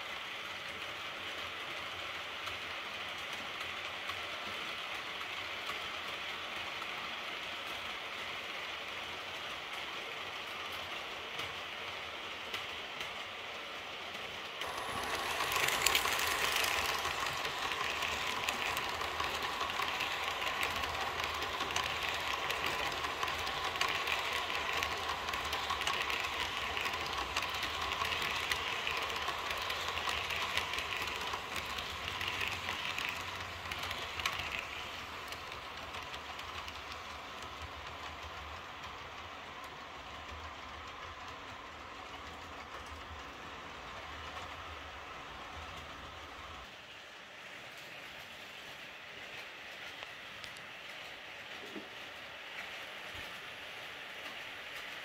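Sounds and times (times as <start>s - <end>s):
wheels clicking over rails: 0.0s - 46.8s
model train running hum: 0.0s - 55.0s.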